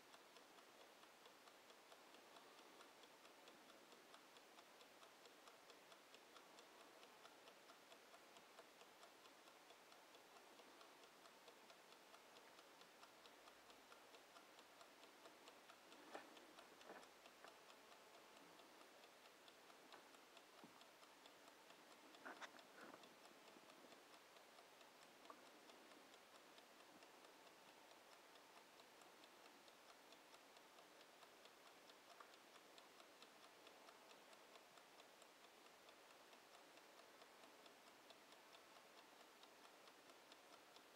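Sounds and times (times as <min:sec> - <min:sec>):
mechanical kitchen timer ticking: 0:00.0 - 0:40.9.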